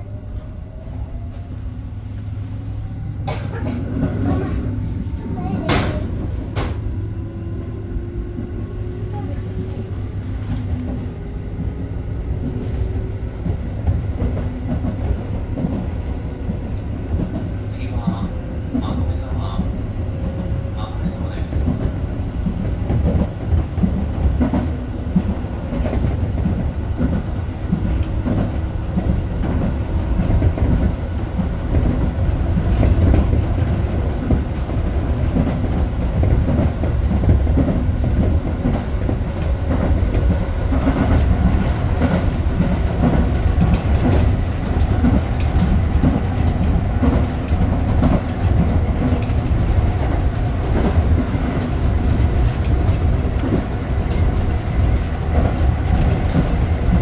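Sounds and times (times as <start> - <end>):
train low rumble: 0.0 - 57.0.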